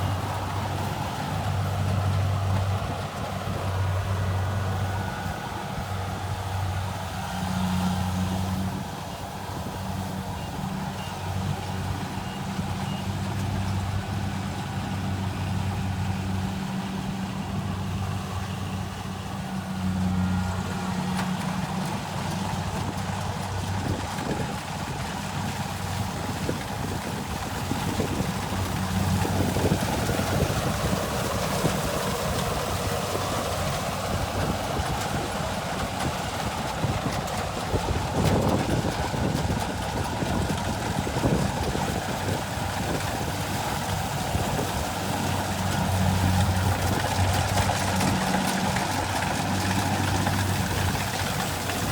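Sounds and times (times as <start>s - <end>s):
diesel engine humming: 0.0s - 51.9s.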